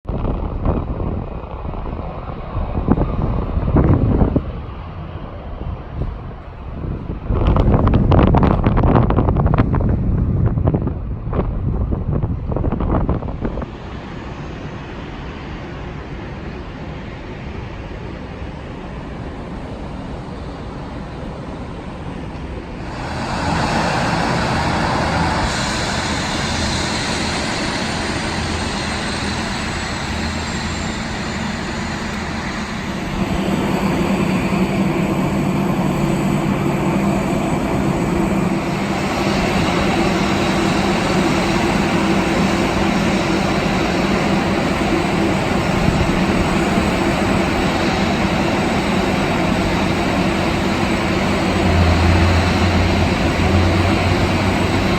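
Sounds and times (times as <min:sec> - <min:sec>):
high engine whine: 0:00.0 - 0:54.9
jet engines rushing: 0:00.0 - 0:54.9
steady low hum: 0:00.1 - 0:54.9.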